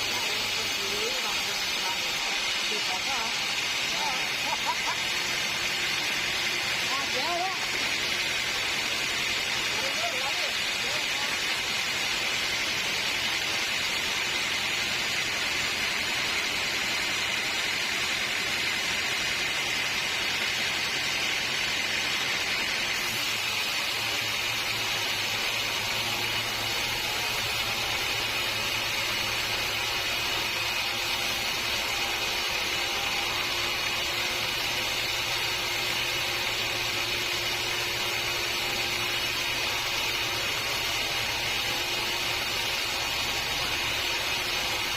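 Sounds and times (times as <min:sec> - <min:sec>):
sawmill saw cutting log: 0:00.0 - 0:44.9.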